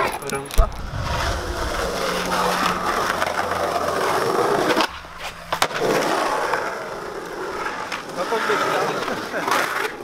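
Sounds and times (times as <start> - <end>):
skateboard wheels rolling on concrete: 0.0 - 10.0
skateboard clacks: 1.9 - 10.0.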